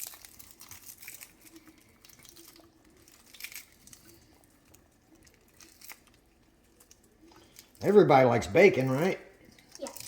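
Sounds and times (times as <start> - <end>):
bacon crumbling crackles: 0.0 - 10.0.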